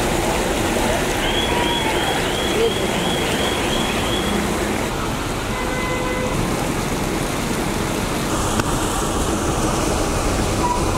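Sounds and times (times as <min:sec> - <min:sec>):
heavy rain falling: 0:00.0 - 0:10.9.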